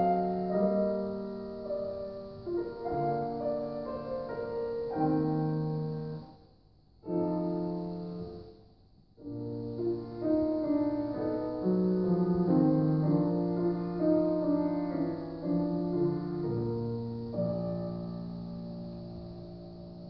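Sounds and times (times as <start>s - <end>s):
solo piano playing: 0.0s - 20.0s.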